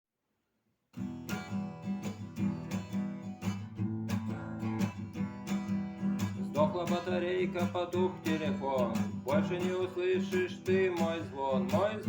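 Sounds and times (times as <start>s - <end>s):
guitar strumming: 1.0s - 12.0s.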